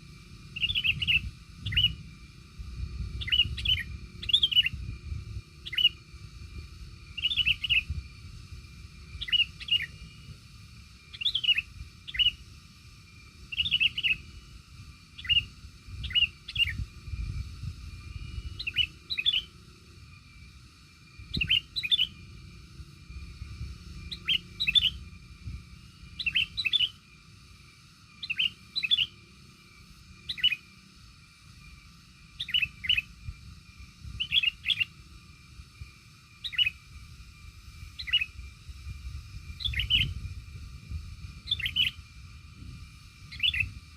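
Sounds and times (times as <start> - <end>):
small bird chirping: 0.0 - 43.9.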